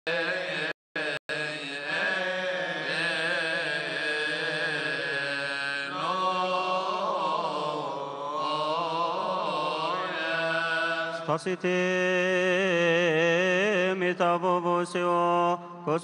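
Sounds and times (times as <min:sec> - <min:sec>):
men chanting a hymn: 0:00.1 - 0:16.0.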